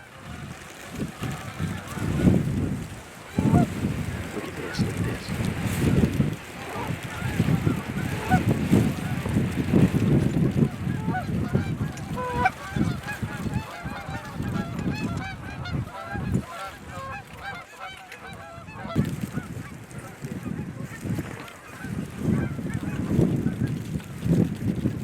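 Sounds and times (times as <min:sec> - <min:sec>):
geese honking and clucking: 0:00.0 - 0:24.0.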